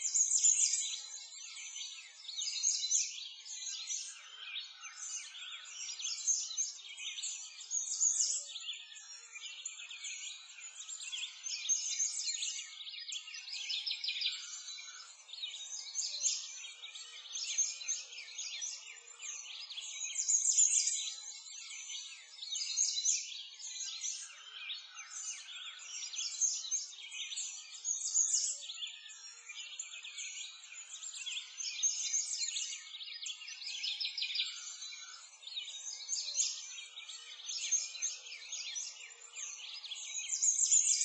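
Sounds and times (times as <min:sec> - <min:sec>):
chorus of small birds chirping: 0:00.0 - 0:41.0.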